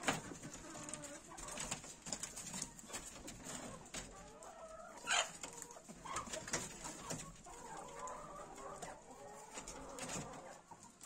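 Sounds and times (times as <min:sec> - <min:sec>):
chickens clucking and cooing: 0:00.0 - 0:11.0.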